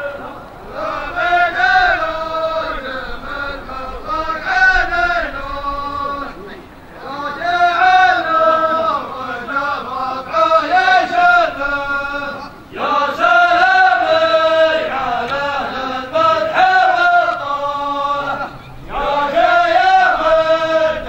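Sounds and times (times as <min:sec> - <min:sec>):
person chanting in held notes: 0:00.0 - 0:21.0.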